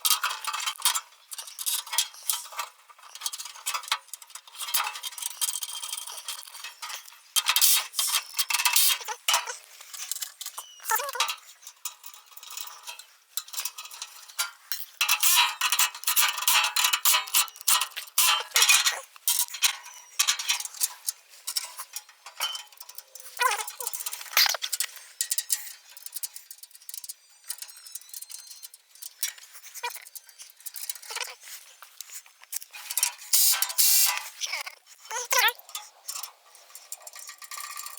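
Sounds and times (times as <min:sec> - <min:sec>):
metal parts and tools clinking: 0:00.0 - 0:37.9.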